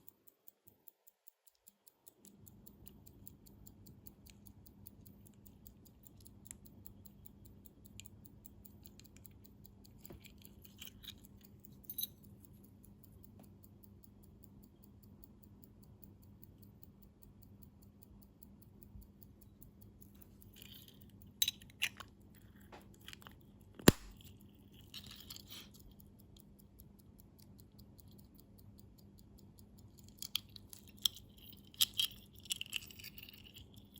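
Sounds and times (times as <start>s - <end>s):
metal tools clicking on watch parts: 0.0s - 33.9s
pocket watch ticking: 0.0s - 33.9s.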